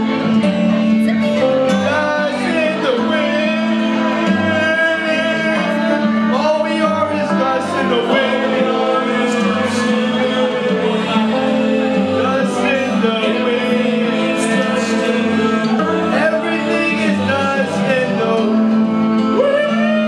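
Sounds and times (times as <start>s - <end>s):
instrumental backing music: 0.0s - 20.0s
man singing into a microphone: 1.7s - 20.0s.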